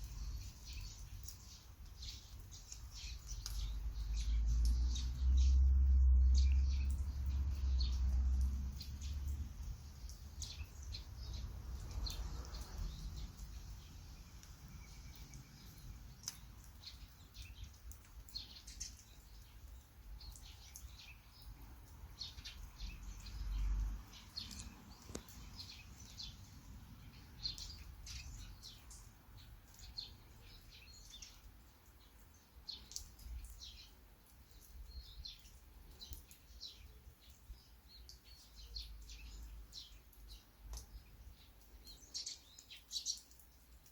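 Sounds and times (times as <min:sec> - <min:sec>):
faint steady hiss: 0:00.0 - 0:06.2, 0:06.8 - 0:43.9
small birds chirping: 0:00.0 - 0:43.9.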